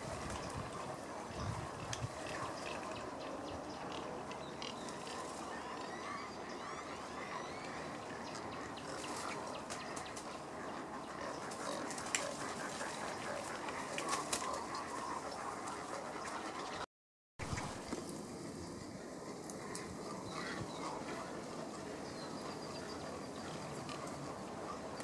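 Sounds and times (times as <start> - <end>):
many birds calling and clicking: 0.0 - 16.8, 17.4 - 25.0.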